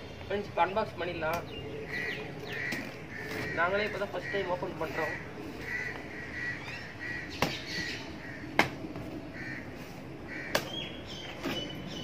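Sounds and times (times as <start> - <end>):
bird calling: 1.3 - 12.0.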